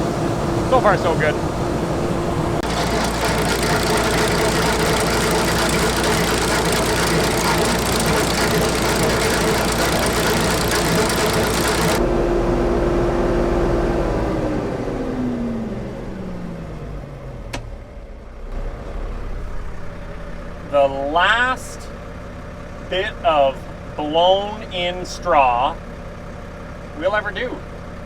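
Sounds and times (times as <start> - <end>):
engine drone: 0.0 - 28.0.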